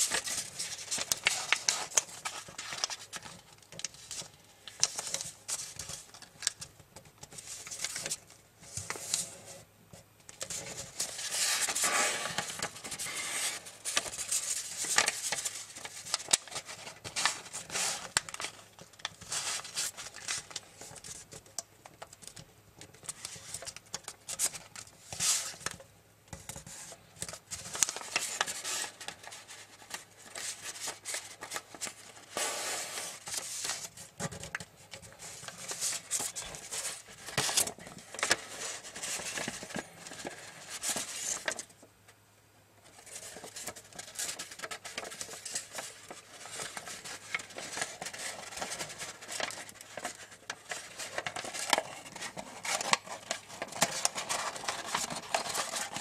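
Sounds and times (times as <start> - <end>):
foil paper crinkling: 0.0 - 6.7, 10.4 - 21.3, 27.2 - 41.7, 42.9 - 56.0.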